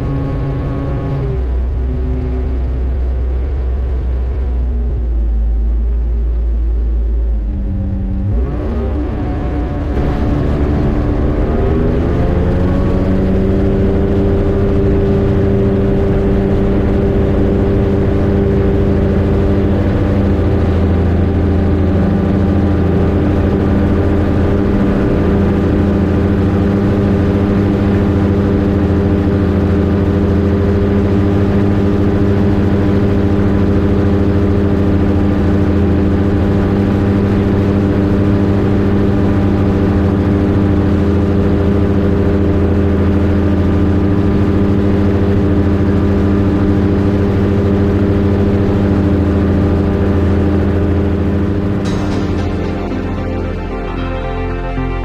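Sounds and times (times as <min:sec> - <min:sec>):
two-stroke aircraft engine: 0:07.6 - 0:54.0.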